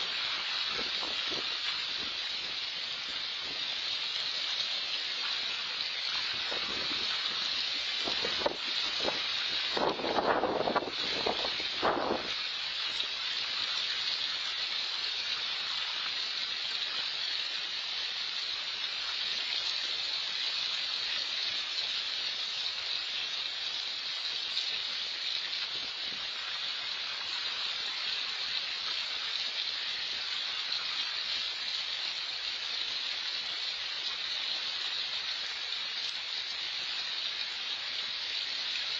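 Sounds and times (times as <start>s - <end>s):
rain falling on pond water: 0.0s - 38.9s.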